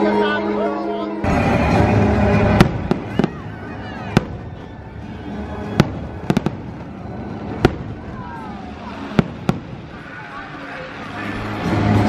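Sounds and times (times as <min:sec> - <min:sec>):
soundtrack music: 0:00.0 - 0:12.0
fireworks bangs: 0:01.3 - 0:11.9.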